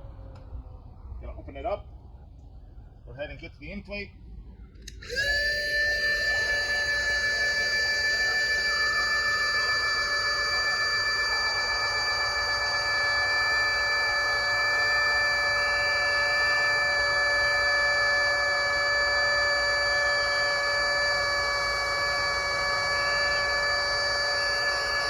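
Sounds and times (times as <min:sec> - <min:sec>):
electric air pump whining: 0:04.8 - 0:25.0.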